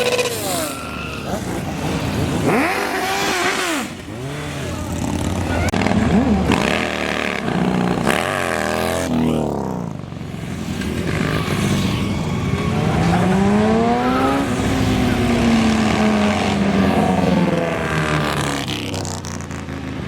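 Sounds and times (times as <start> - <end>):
car engines accelerating: 0.0 - 20.0.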